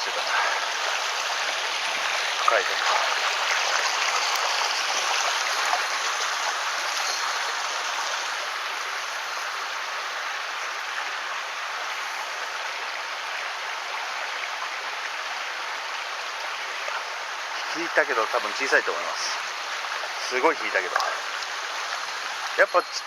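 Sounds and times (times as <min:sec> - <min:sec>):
stream water running: 0:00.0 - 0:23.0.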